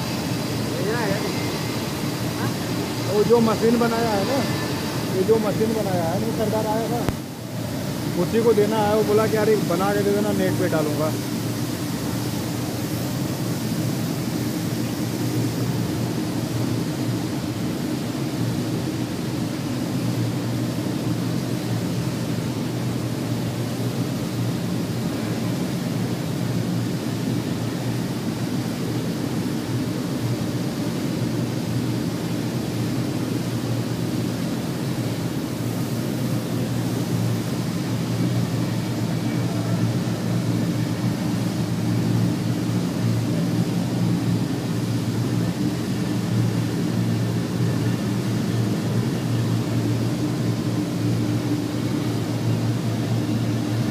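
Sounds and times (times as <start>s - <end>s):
rolling mill humming: 0.0s - 53.9s.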